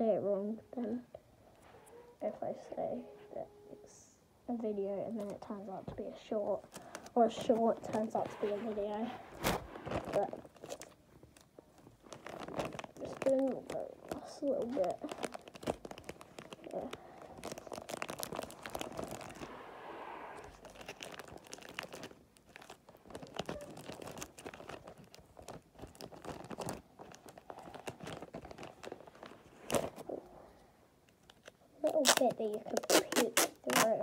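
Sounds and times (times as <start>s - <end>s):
wrapping paper crinkling: 5.1s - 19.7s, 20.4s - 30.2s, 31.1s - 34.0s.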